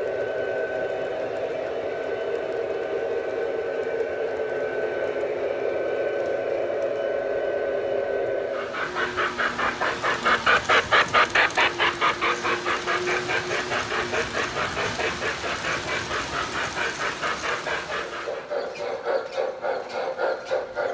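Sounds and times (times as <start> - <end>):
model steam locomotive chuffing: 0.0 - 20.9
model train cars rumbling: 0.0 - 20.9.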